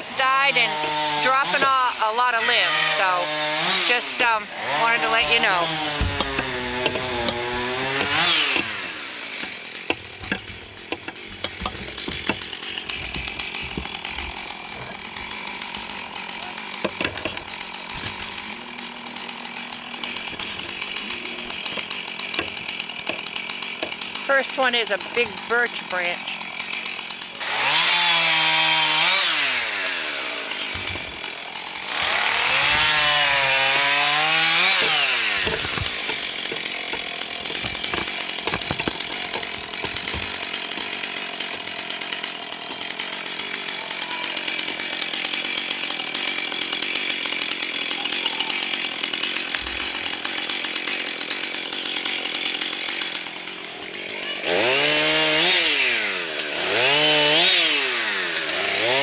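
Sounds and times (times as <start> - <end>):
chainsaw revving and cutting: 0.0 - 59.0.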